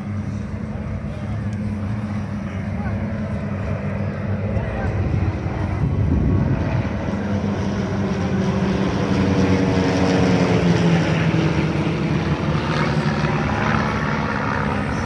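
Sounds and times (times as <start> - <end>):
propeller planes droning past: 0.0 - 15.0.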